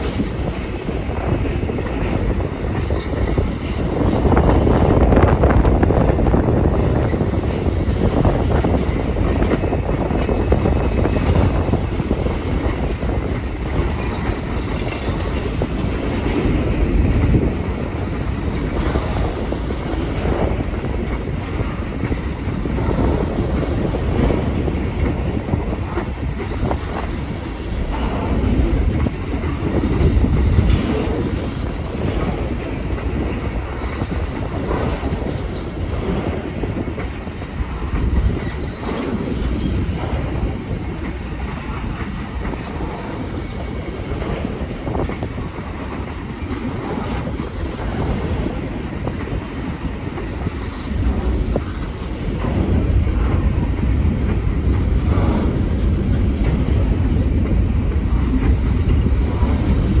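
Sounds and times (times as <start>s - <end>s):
train wheels clacking over rails: 0.0s - 60.0s.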